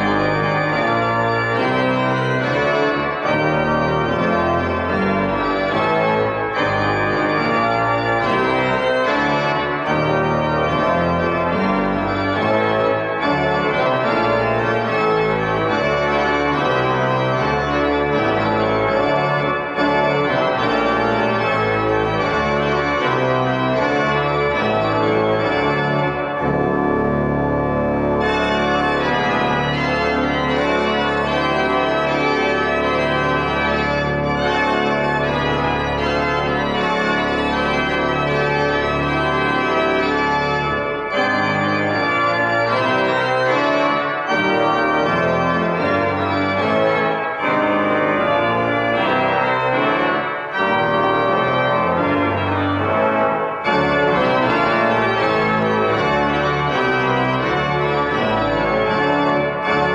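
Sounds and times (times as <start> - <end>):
pipe organ chords: 0.0 - 59.9.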